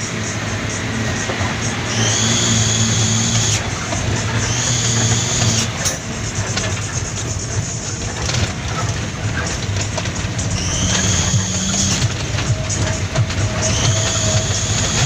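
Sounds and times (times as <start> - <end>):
diesel truck engine running: 0.0 - 15.0
high whine: 0.0 - 15.0
truck cab rattling and knocking: 0.0 - 15.0.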